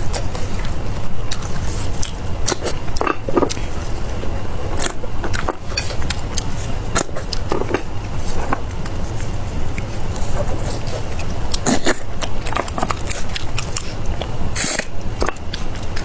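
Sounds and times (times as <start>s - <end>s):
crunchy chewing of fried food: 0.0s - 16.0s.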